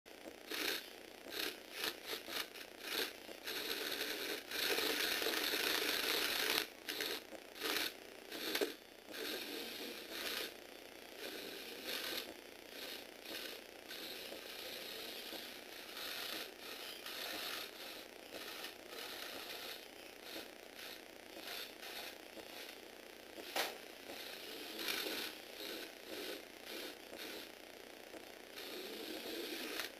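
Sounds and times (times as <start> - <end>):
toy motor and gears whirring: 0.2 - 29.9.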